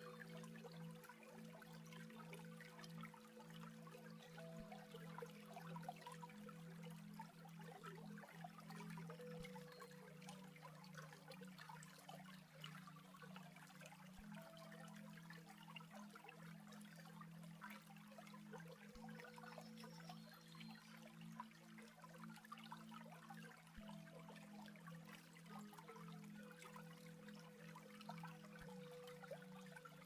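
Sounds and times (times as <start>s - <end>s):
faint trickling stream: 0.0s - 30.0s
soft music drone: 0.0s - 30.0s.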